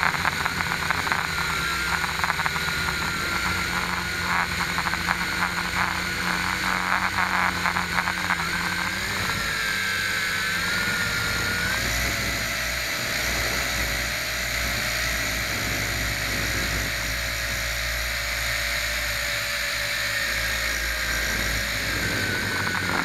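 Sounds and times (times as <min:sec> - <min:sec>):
drone motors whining: 0:00.0 - 0:23.0
fast pulsing rattle: 0:00.0 - 0:23.0.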